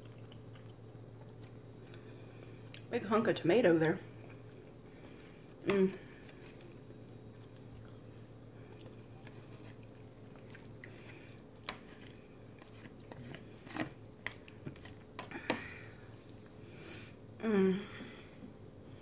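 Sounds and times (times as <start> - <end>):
quiet chewing: 0.0 - 2.9, 4.1 - 17.2.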